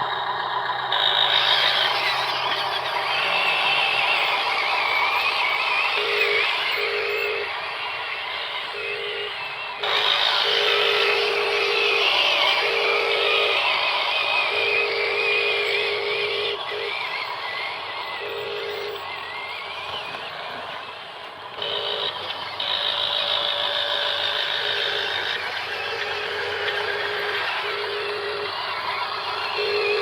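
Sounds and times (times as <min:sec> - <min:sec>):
small electric motors whining: 0:00.0 - 0:30.0.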